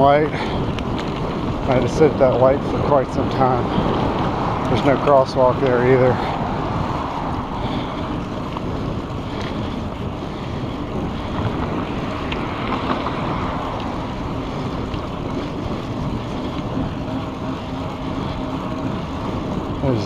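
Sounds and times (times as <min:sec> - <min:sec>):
road and traffic rumble: 0:00.0 - 0:20.0
wind rushing over microphone: 0:00.0 - 0:20.0.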